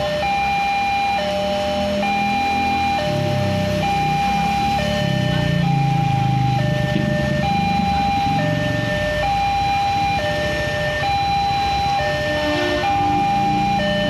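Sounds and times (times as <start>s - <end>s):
rumble of idling vehicles: 0.0s - 14.0s
two-tone crossing alarm: 0.0s - 14.0s.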